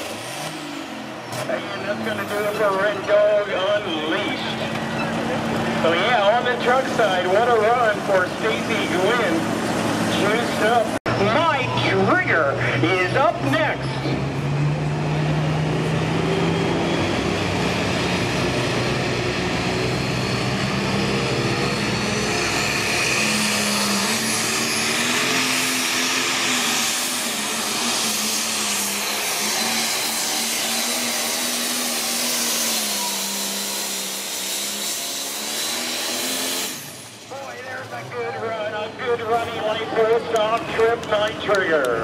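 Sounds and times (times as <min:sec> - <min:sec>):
diesel engine revving under load: 0:00.0 - 0:42.0.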